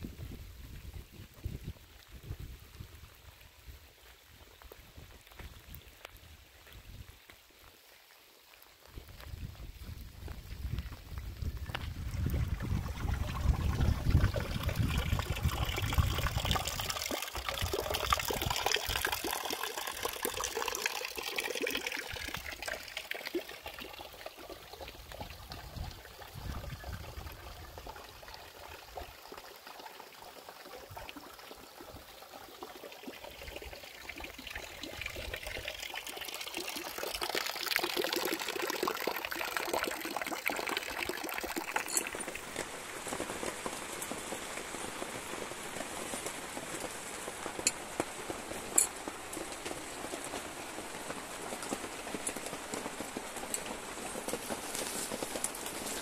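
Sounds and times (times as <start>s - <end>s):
rainwater pouring and trickling: 0.0s - 56.0s
rain falling: 0.2s - 56.0s.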